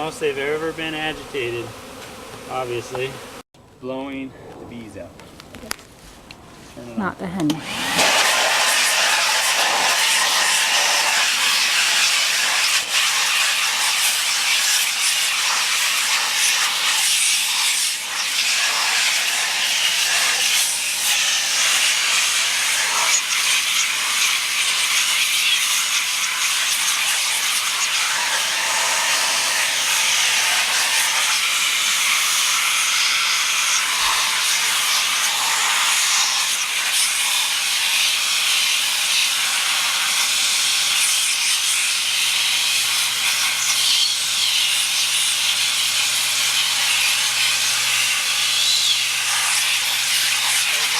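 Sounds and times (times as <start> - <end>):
blower blowing air: 0.0 - 3.2, 6.0 - 50.9.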